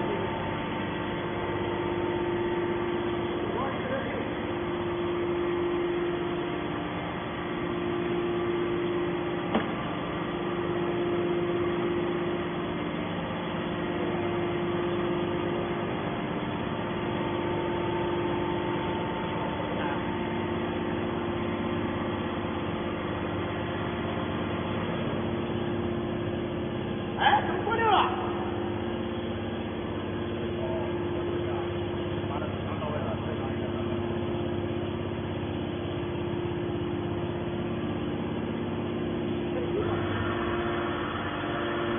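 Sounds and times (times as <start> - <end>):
hydraulic baler motor humming: 0.0 - 41.9.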